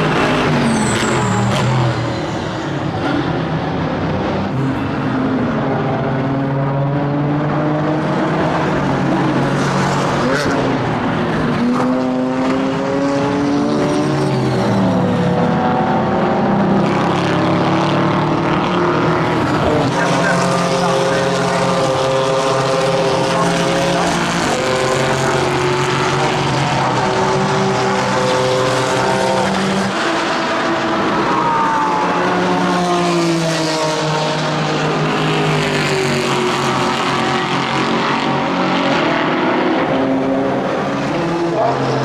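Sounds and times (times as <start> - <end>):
race car engine accelerating: 0.0 - 42.0.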